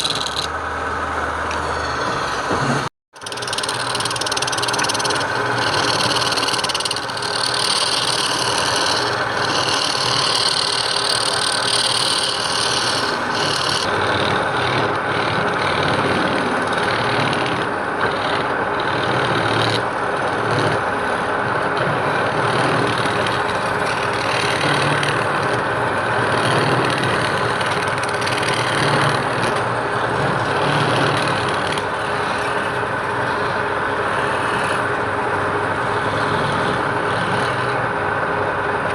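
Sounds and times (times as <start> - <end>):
woodworking power tool running: 0.0 - 38.9.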